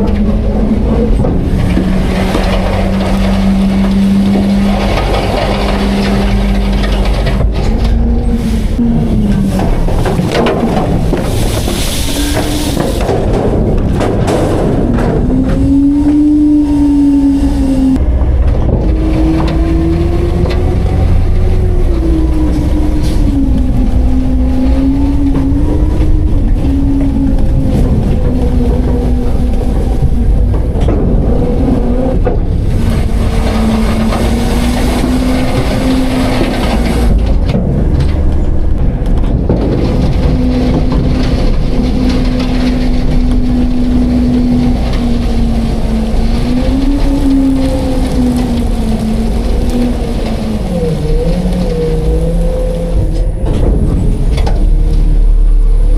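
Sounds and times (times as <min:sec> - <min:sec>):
garbage truck diesel engine: 0:00.0 - 0:55.9.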